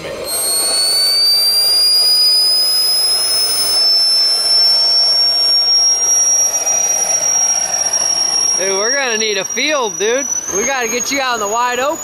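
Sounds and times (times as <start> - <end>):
jet turbine whine: 0.0 - 12.0
rushing exhaust: 0.0 - 12.0.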